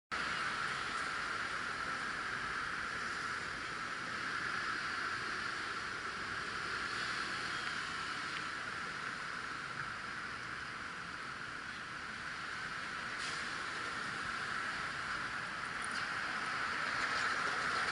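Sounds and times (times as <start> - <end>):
city street ambience: 0.1 - 17.9.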